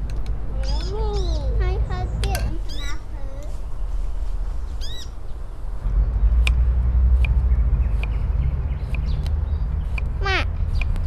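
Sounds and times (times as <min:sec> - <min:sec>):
passing vehicle rumble: 0:00.0 - 0:11.0
bird chirping: 0:00.6 - 0:03.1, 0:03.8 - 0:11.0.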